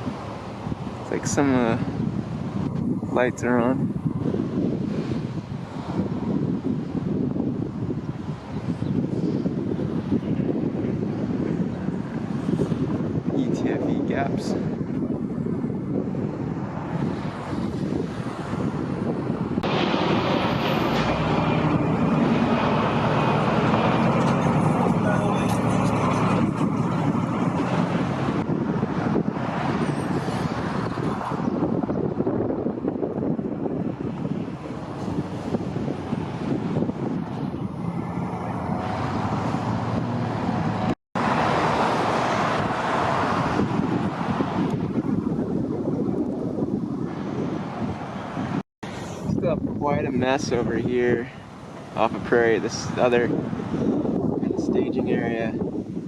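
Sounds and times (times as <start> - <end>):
vehicle engine rumble: 0.0 - 56.0
wind noise: 0.0 - 56.0.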